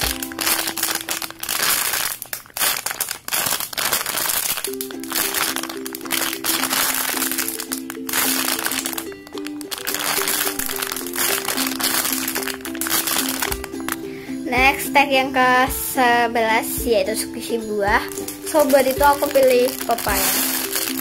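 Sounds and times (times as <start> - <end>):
simple background melody: 0.0 - 1.6, 4.5 - 21.0
plastic bag crinkling: 0.0 - 14.1, 17.9 - 21.0.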